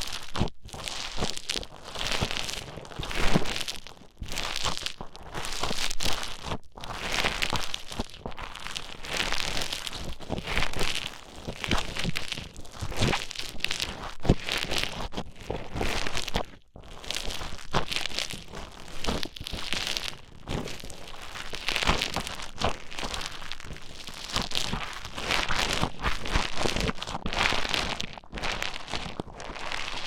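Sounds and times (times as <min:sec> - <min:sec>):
foam beads crackling and squelching: 0:00.0 - 0:30.0.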